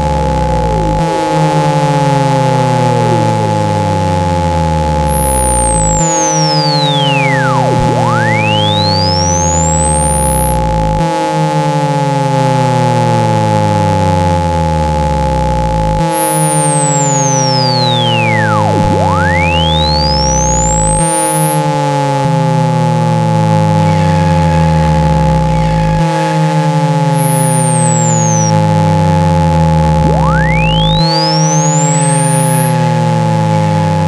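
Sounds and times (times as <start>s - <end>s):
falling low tones: 0.0s - 1.5s, 2.6s - 12.5s, 14.2s - 34.0s
pure tone sweeping: 0.0s - 12.9s, 14.0s - 34.0s
two steady synthetic tones: 0.0s - 34.0s.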